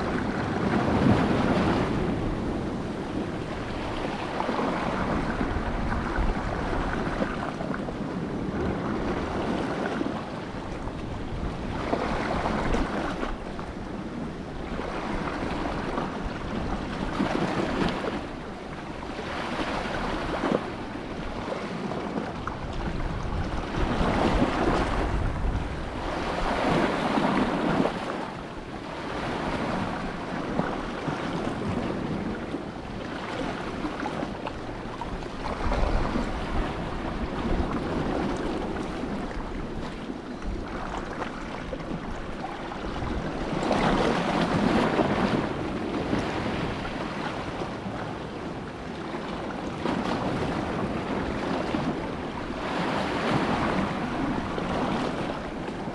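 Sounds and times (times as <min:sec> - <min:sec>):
sea waves washing ashore: 0:00.0 - 0:55.9
wind on microphone: 0:00.0 - 0:55.9.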